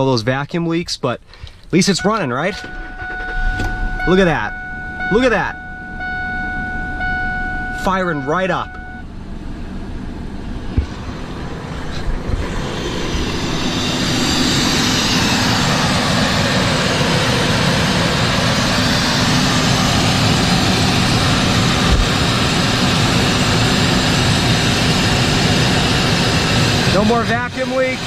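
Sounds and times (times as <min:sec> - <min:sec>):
truck engine running: 0:02.0 - 0:28.0.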